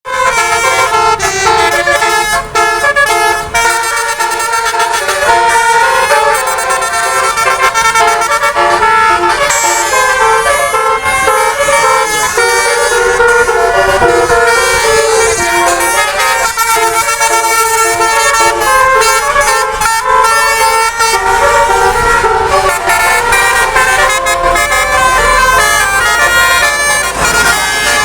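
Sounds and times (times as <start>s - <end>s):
bus air horn melody: 0.0s - 28.0s.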